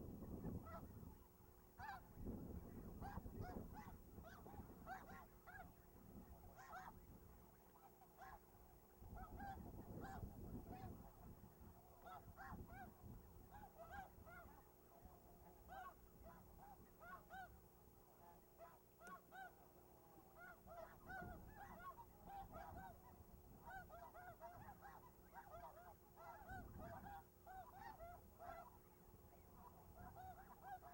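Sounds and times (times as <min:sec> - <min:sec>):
flock of geese honking: 0:00.0 - 0:30.9.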